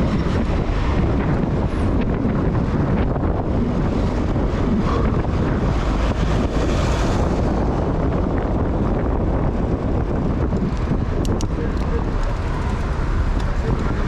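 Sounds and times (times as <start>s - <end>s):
street traffic: 0.0s - 14.0s
wind rumble on microphone: 0.0s - 14.0s.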